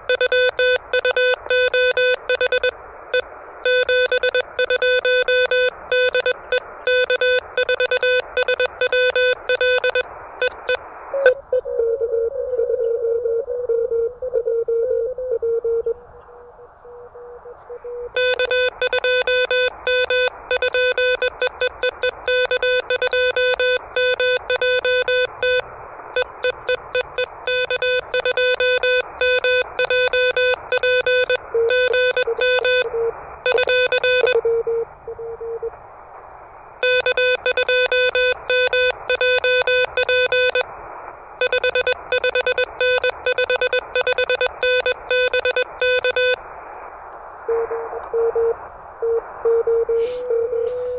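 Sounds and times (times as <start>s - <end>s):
morse code tone: 0.0s - 25.6s, 26.2s - 35.7s, 36.8s - 40.6s, 41.4s - 46.4s, 47.5s - 50.9s
receiver hiss: 0.0s - 50.9s.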